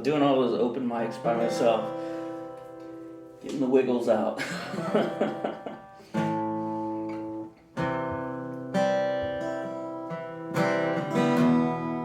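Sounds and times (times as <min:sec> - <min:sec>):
acoustic guitar strummed chords: 0:00.1 - 0:03.6, 0:04.5 - 0:12.0.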